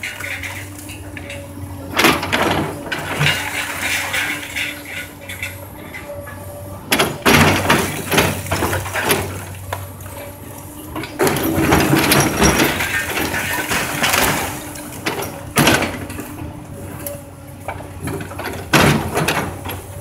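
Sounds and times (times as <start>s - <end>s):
demolition debris crashing: 0.0s - 5.6s, 6.9s - 10.3s, 10.9s - 16.4s, 17.6s - 20.0s
excavator diesel engine running: 0.0s - 20.0s.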